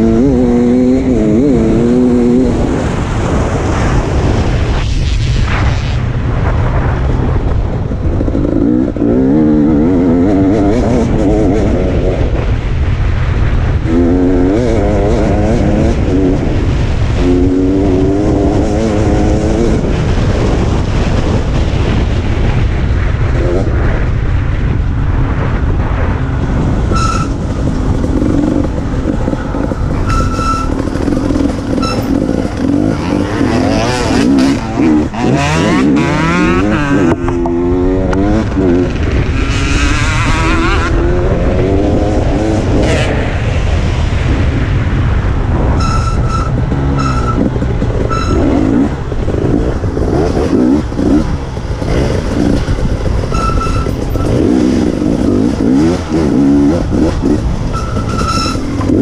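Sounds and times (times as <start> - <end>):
dirt bike engine revving: 0.0 - 4.5, 8.2 - 12.5, 13.7 - 21.4, 25.5 - 43.3, 45.8 - 59.0
wind rush on microphone: 0.0 - 59.0.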